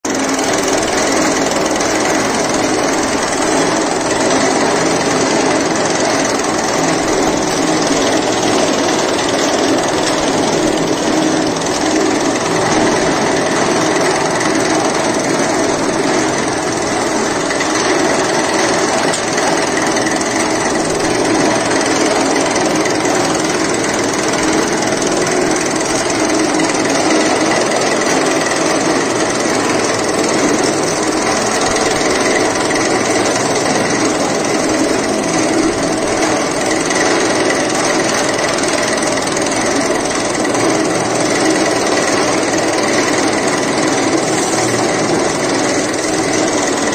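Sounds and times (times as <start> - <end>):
chaff cutter chopping fodder: 0.0 - 46.9.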